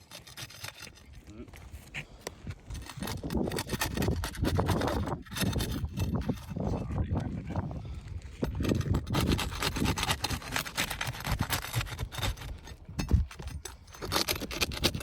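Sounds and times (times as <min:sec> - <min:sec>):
scraping and rubbing strokes: 0:00.0 - 0:07.1, 0:08.4 - 0:15.0.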